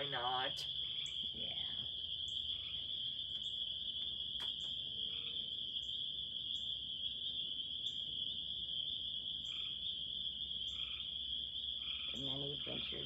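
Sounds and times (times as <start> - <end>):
crickets trilling: 0.0 - 13.0
higher cricket chirp: 0.0 - 13.0.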